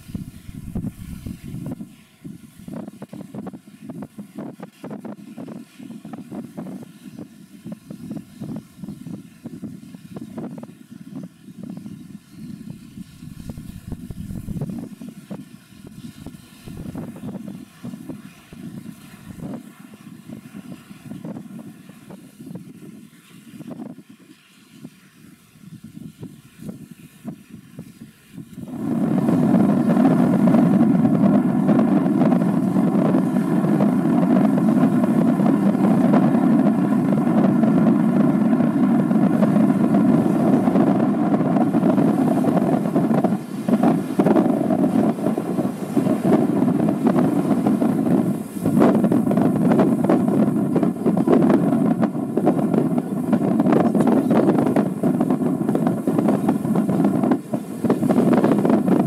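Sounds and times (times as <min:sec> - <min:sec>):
low drone of ferry passing: 0:00.0 - 0:59.0.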